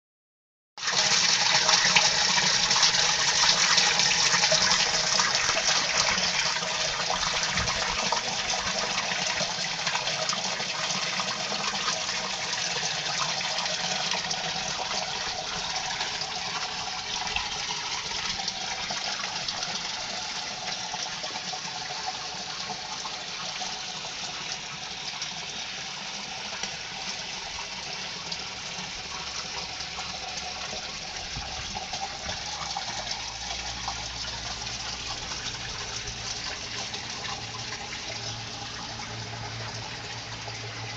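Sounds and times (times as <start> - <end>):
water gushing from a pipe: 0.8 - 40.9.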